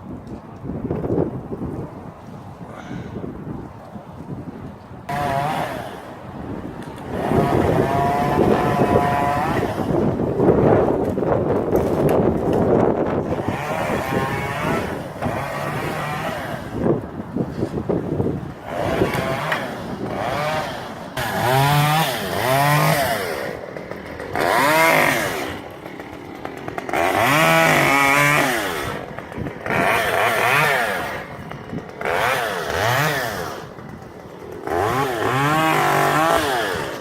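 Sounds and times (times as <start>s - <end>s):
chainsaw revving: 5.1s - 11.1s, 11.8s - 37.0s.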